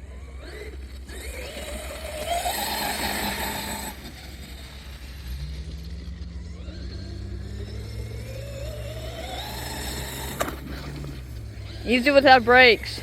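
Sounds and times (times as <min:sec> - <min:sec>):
rc car motor whine: 0:00.0 - 0:13.0.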